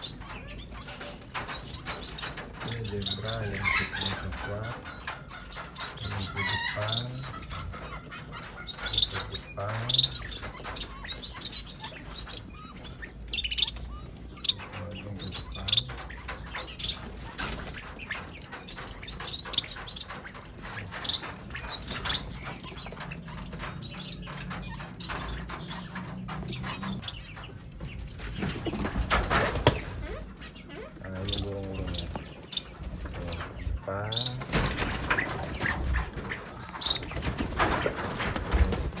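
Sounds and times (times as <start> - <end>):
finches chirping and tweeting: 0.0 - 39.0.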